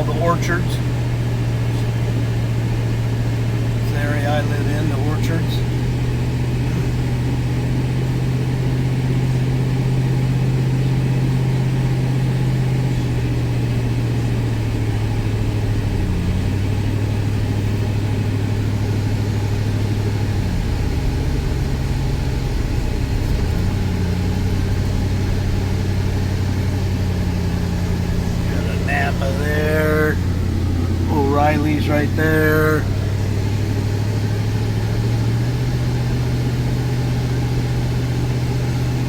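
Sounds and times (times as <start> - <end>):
road noise: 0.0 - 39.0
vehicle engine running: 0.0 - 39.0.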